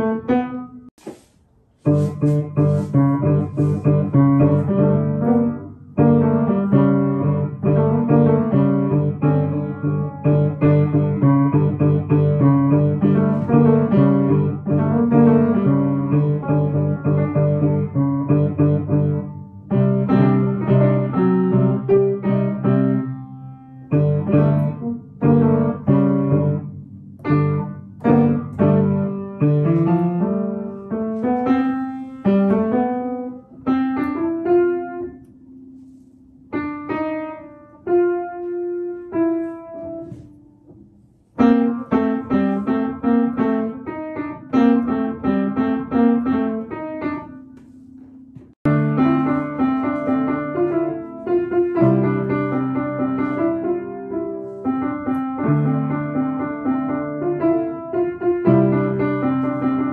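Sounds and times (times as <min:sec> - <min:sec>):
child playing piano: 0:00.0 - 0:00.9, 0:01.8 - 0:59.9.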